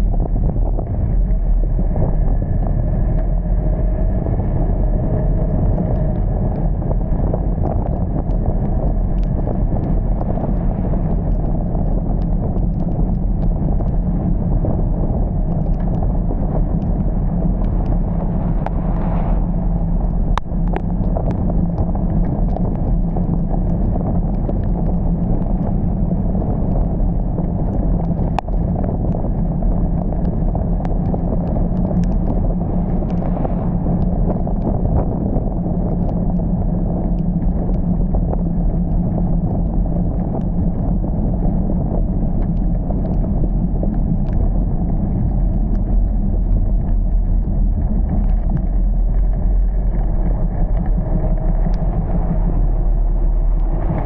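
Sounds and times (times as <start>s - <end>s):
car driving in heavy rain: 0.0s - 54.0s
small ticks: 4.7s - 19.2s, 20.0s - 52.4s.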